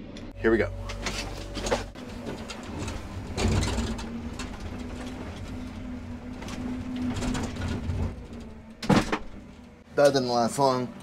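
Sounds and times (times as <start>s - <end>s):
excavator engine rumble: 0.0s - 11.0s
steady engine whine: 0.0s - 11.0s.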